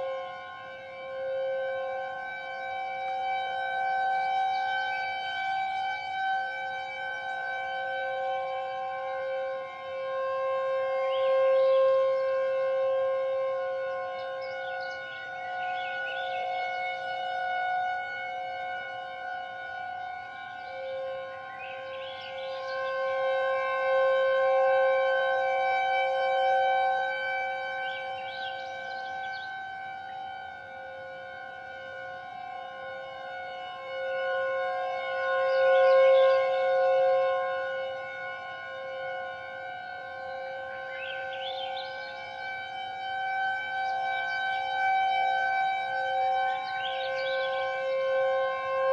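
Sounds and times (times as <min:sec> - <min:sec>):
warning siren held tones: 0:00.0 - 0:48.9.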